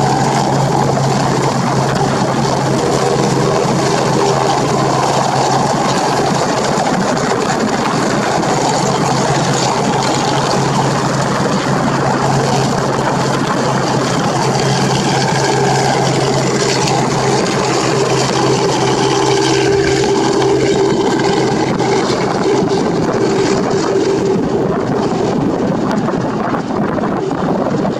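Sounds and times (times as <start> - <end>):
helicopter rotor and engine: 0.0 - 27.9.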